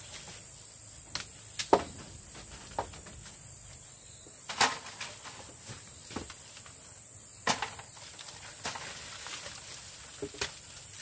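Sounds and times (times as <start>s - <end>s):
high insect drone: 0.0s - 11.0s
bamboo poles cracking and knocking: 1.0s - 3.4s, 4.4s - 11.0s.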